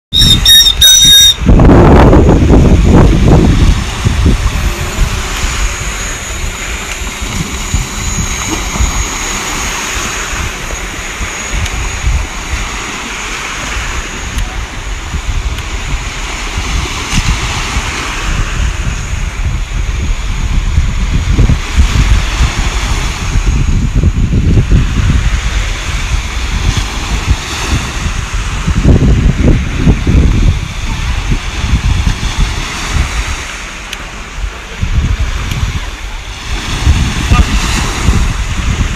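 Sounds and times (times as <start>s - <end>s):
wind buffeting microphone: 0.1s - 38.9s
small waves breaking on shore: 1.4s - 38.9s.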